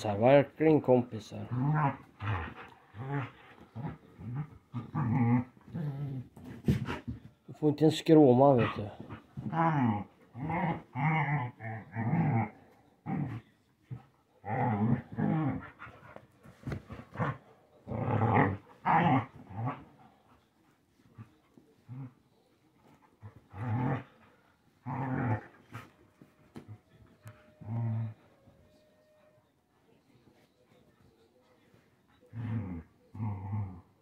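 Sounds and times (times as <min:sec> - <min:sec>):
dogs play-fighting and growling: 0:00.1 - 0:07.5, 0:08.1 - 0:34.0.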